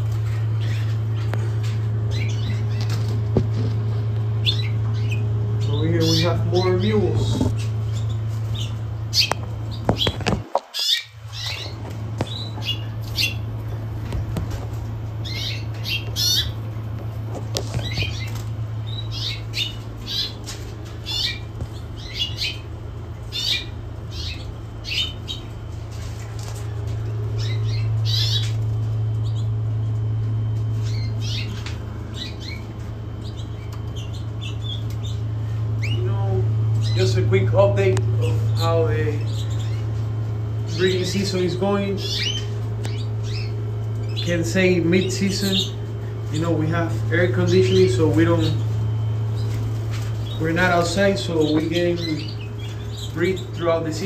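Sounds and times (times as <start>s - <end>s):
canaries chirping: 0.0s - 54.0s
steady low hum: 0.0s - 54.0s.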